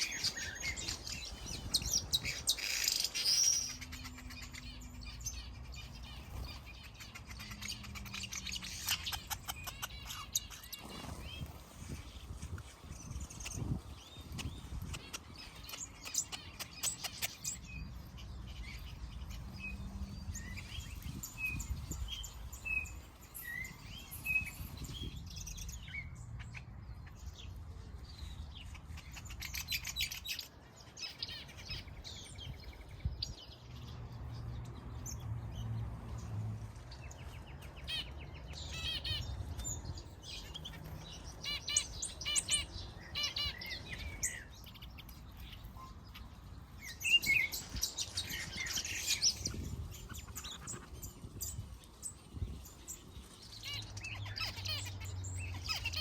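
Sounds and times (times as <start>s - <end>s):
finches calling and chirping: 0.0s - 35.6s, 36.9s - 56.0s.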